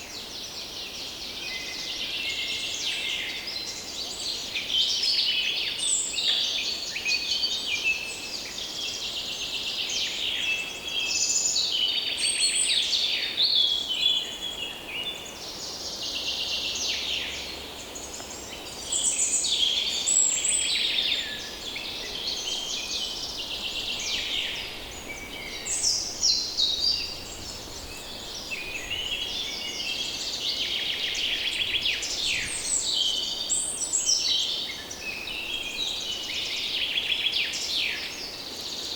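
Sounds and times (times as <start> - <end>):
chorus of songbirds: 0.0 - 38.9.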